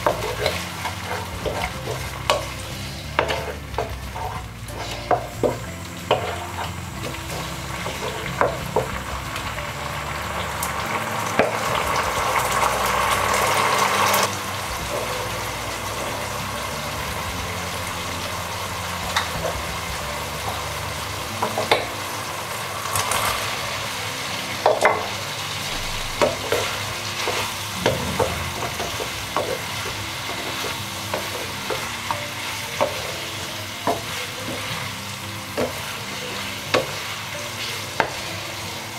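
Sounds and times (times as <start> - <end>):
sauce sizzling in a pan: 0.0 - 38.9.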